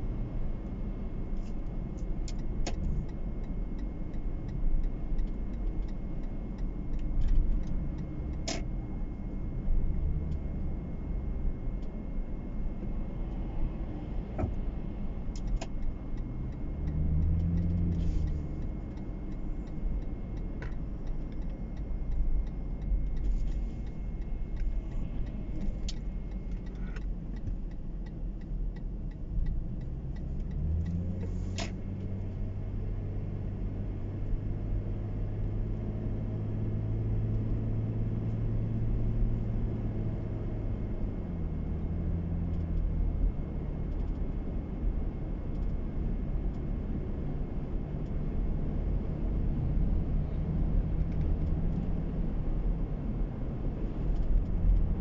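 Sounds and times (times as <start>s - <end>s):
car engine: 0.0s - 55.0s
road rumble inside car: 0.0s - 55.0s.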